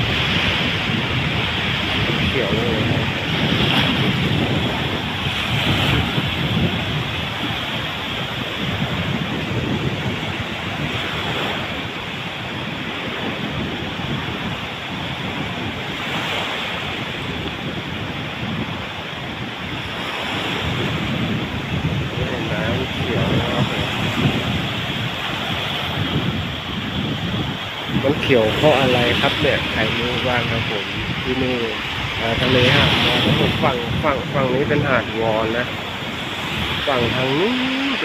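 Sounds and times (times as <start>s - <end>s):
small waves breaking on shore: 0.0s - 38.0s
wind buffeting microphone: 0.0s - 38.0s.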